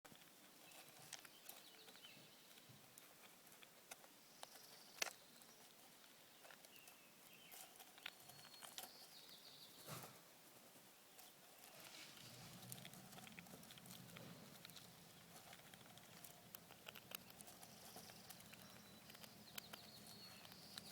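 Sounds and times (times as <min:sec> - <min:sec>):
squirrel clicking and tapping: 0:00.1 - 0:10.0, 0:11.1 - 0:20.9.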